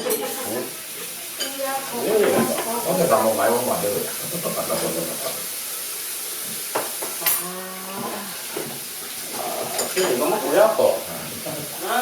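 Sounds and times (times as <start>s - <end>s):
steady high hiss: 0.1s - 12.0s.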